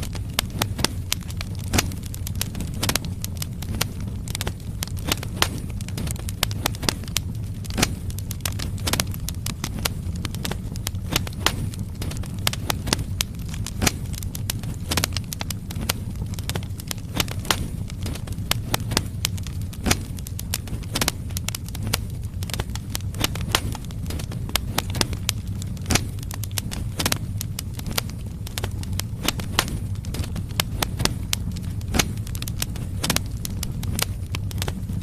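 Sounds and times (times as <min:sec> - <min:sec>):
logs crackling and popping: 0:00.0 - 0:35.0
low fire rumble: 0:00.0 - 0:35.0.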